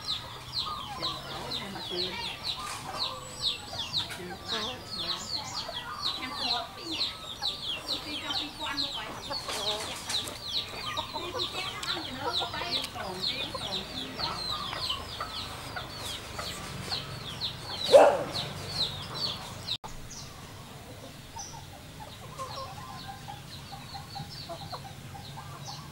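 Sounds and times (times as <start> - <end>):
chicks cheeping: 0.0 - 25.9
faint bird calls: 0.0 - 25.9.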